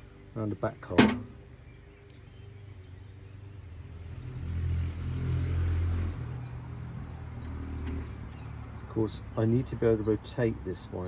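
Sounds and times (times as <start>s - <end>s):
bird chirping: 1.3s - 11.0s.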